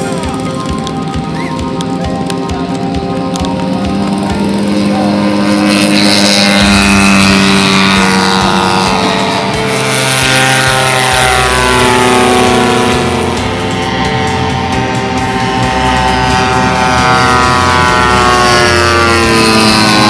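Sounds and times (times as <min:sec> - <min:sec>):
background music: 0:00.0 - 0:20.0
model airplane engine flying past: 0:00.0 - 0:20.0.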